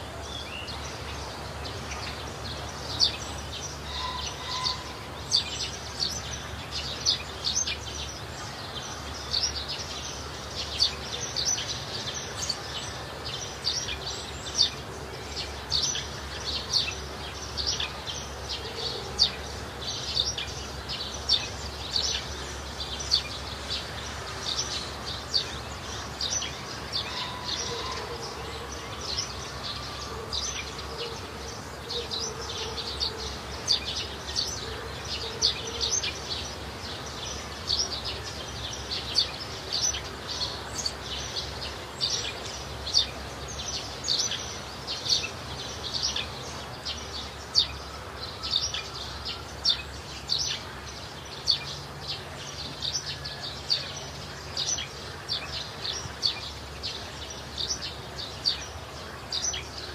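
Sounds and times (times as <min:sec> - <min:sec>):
birds chirping: 0:00.0 - 0:59.9
low rumble of background noise: 0:00.0 - 0:59.9.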